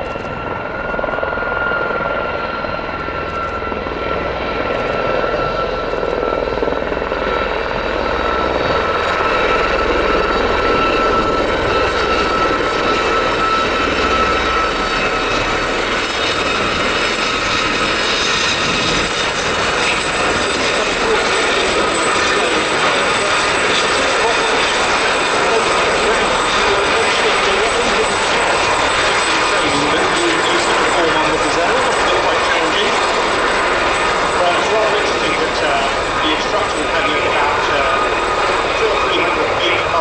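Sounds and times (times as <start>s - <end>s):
helicopters flying past: 0.0s - 40.0s
high turbine whine: 0.0s - 40.0s.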